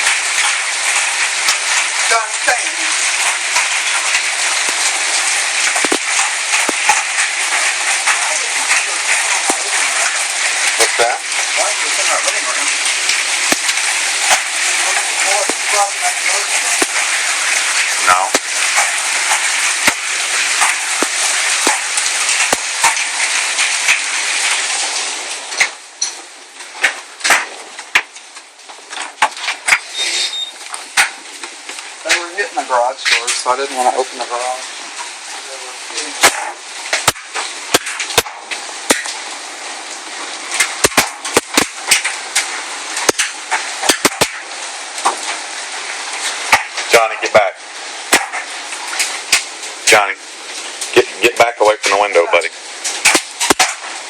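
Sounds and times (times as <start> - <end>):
hailstones knocking hard: 0.0 - 29.9, 30.5 - 54.0
hail and rain hissing: 0.0 - 54.0.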